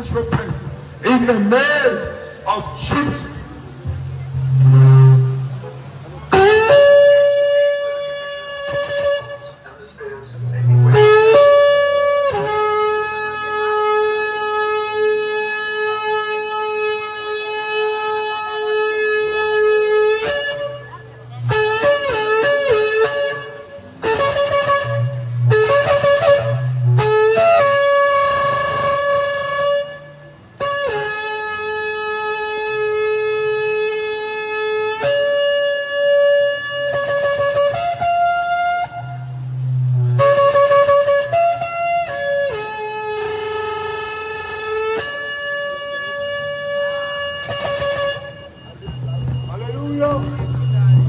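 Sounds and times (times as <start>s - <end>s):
ram's horn blasts: 0.0s - 51.0s.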